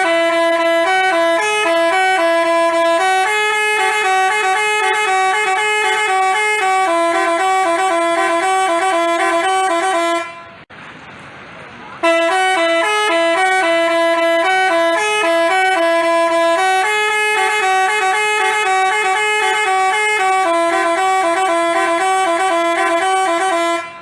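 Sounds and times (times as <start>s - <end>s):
bus musical horn playing a tune: 0.0s - 10.7s, 12.0s - 24.0s.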